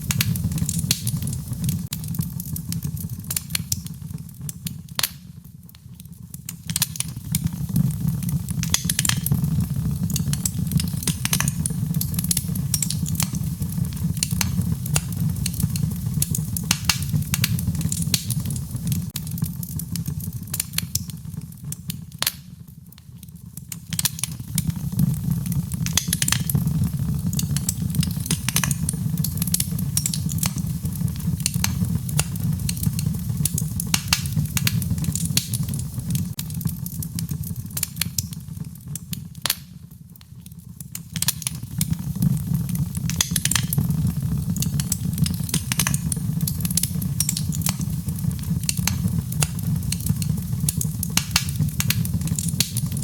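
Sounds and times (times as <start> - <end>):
low rumble of flames: 0.0 - 53.0
wood fire crackling and popping: 0.0 - 53.0.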